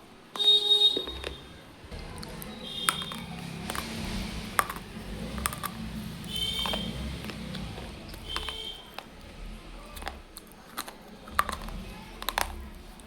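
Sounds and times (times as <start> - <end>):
crunchy noodles crunching: 0.4 - 13.0.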